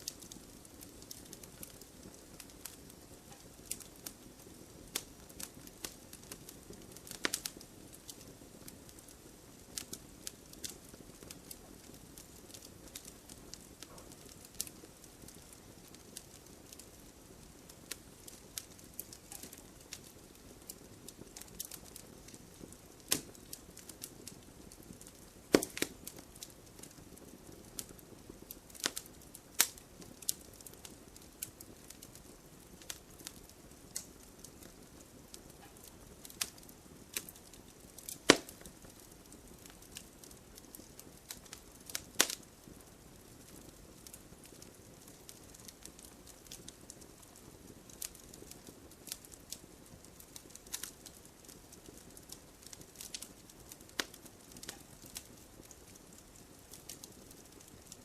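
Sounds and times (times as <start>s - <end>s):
faint low fire hiss: 0.0s - 58.0s
wood fire popping and snapping: 0.0s - 58.0s.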